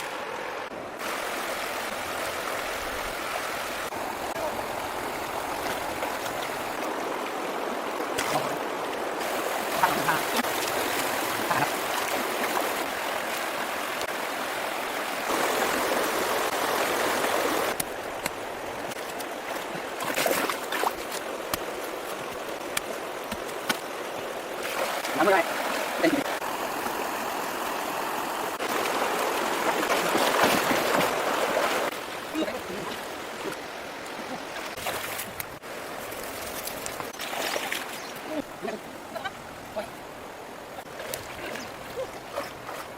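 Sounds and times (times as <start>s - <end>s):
water rushing and splashing: 0.0s - 42.9s.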